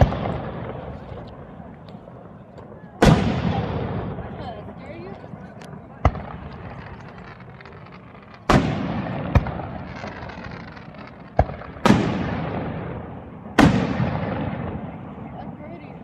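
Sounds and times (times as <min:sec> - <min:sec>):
firework cracks: 0:00.0 - 0:15.3
firework booms echoing: 0:00.0 - 0:15.8.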